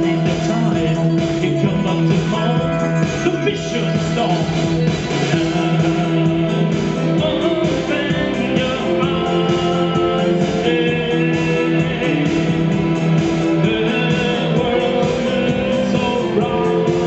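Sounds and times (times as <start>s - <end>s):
rock band playing with guitar: 0.0s - 17.0s.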